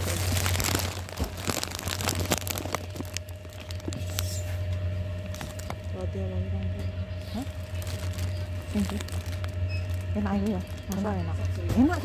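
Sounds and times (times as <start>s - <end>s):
plastic packaging crinkling: 0.0s - 6.3s, 7.2s - 12.0s
steady low hum: 0.0s - 12.0s.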